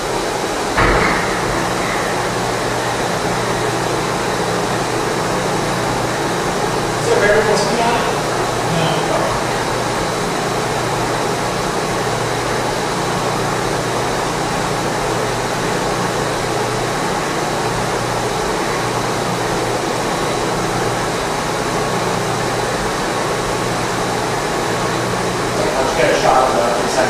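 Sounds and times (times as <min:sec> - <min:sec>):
mixer mechanical hum: 0:00.0 - 0:27.0.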